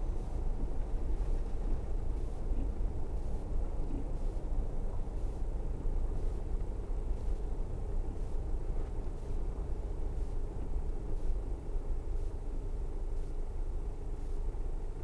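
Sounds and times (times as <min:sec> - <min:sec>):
car engine and tyres rumbling: 0:00.0 - 0:15.0
faint hum: 0:00.0 - 0:15.0.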